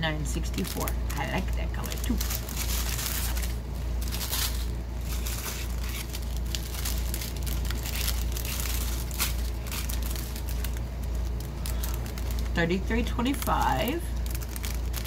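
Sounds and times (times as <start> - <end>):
steady low hum: 0.0 - 15.0
plastic bags crinkling: 0.4 - 15.0.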